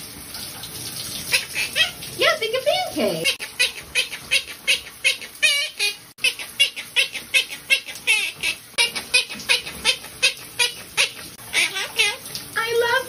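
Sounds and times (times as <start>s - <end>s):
parakeet talking: 1.3s - 13.0s.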